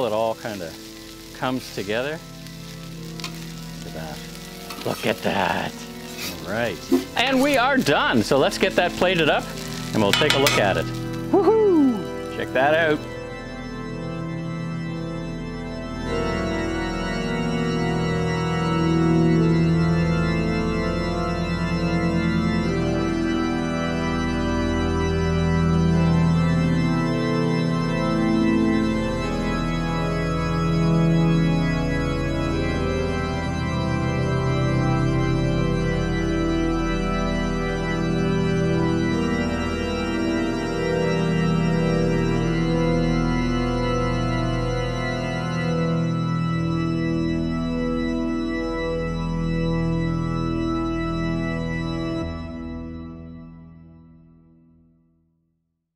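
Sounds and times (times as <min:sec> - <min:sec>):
slow organ-like keyboard chords: 0:00.0 - 0:54.9.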